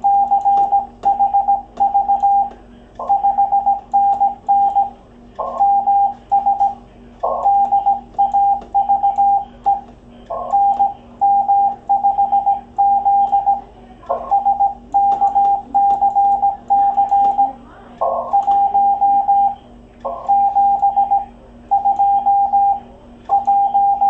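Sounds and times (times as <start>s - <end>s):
faint steady hum: 0.0s - 24.0s
morse code tone: 0.0s - 24.0s.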